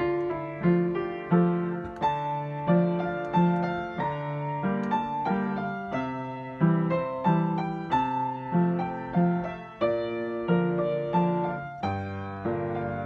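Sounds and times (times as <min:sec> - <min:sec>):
slow piano tune: 0:00.0 - 0:13.0.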